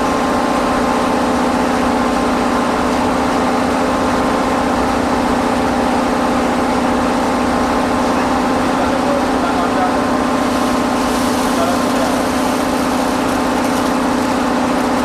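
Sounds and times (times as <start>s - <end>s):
heavy machinery humming: 0.0s - 15.0s.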